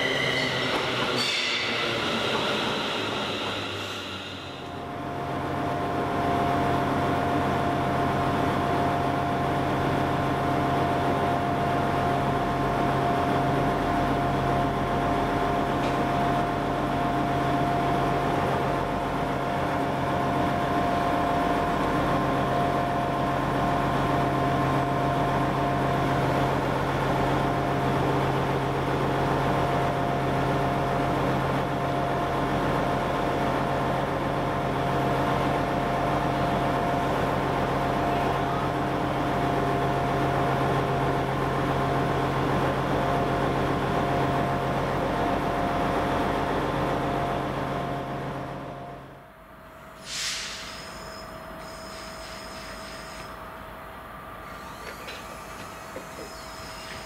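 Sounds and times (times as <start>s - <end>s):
train hum: 0.0s - 57.0s.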